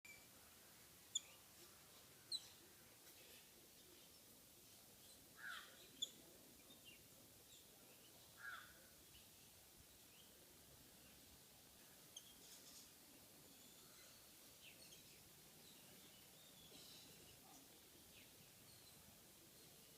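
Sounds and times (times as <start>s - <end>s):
faint background hiss: 0.0s - 19.9s.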